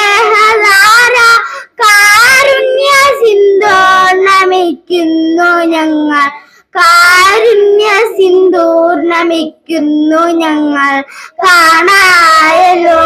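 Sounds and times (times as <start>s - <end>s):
girls singing in unison: 0.0s - 13.0s.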